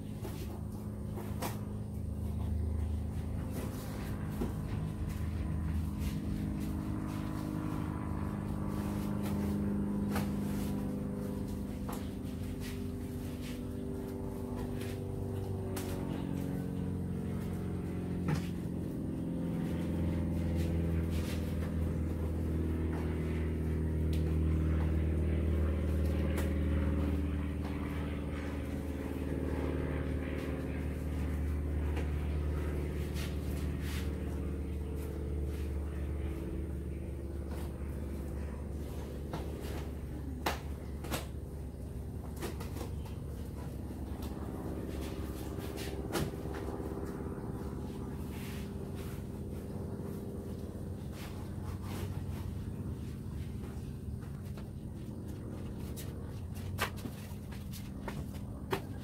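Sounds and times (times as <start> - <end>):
engine-like drone: 0.0 - 59.0.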